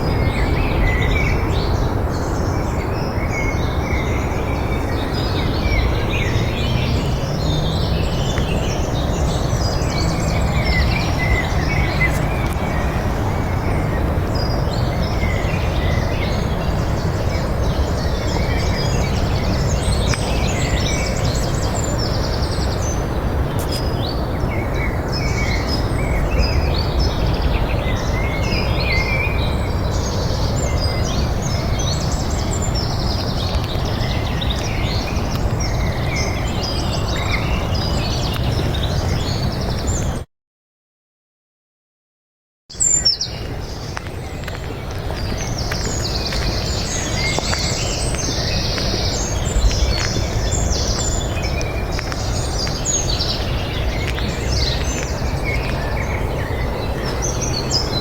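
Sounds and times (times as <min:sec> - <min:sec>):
small birds chirping and singing: 0:00.0 - 0:40.2, 0:42.7 - 0:58.0.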